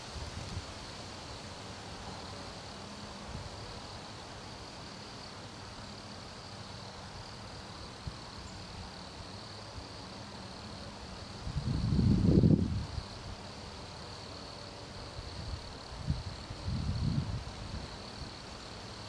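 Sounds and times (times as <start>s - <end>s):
crickets chorus: 0.0s - 19.0s.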